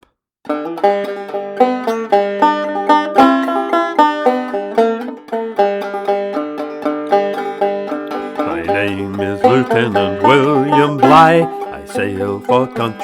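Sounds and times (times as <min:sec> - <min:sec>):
banjo playing: 0:00.4 - 0:13.0.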